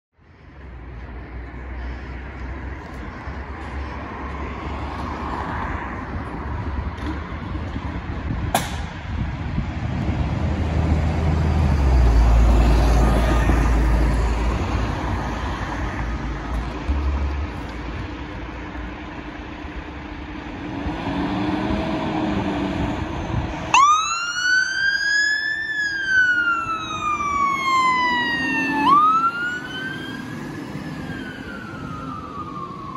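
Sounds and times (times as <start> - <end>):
road traffic noise: 0.1 - 32.9
passing car rumble: 0.4 - 32.9.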